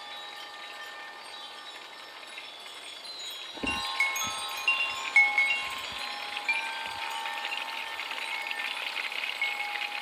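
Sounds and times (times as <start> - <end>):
wind chimes ringing: 0.0 - 10.0.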